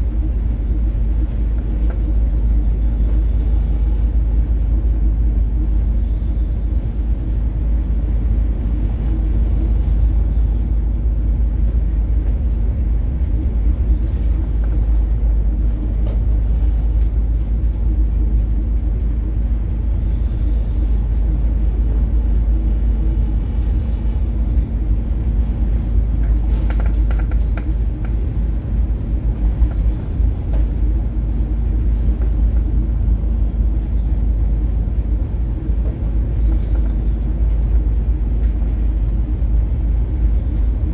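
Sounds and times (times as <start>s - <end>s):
ship engine humming: 0.0s - 40.9s
ship rumbling in heavy seas: 0.0s - 40.9s.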